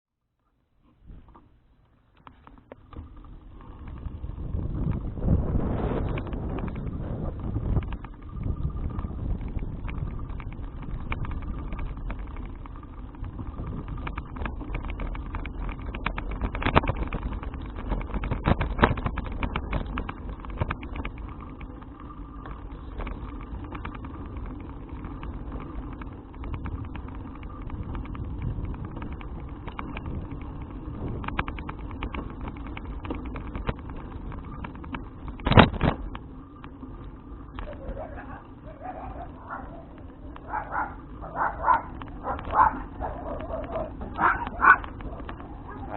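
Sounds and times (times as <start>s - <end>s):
bicycle rattles and clicks: 0.8s - 45.9s
road rumble: 0.8s - 45.9s
wind noise: 2.9s - 36.4s, 37.2s - 45.9s.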